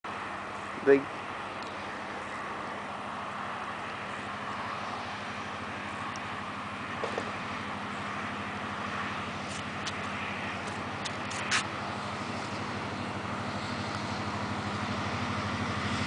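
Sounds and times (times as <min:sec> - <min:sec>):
distant diesel locomotive engine drone: 0:00.1 - 0:16.0.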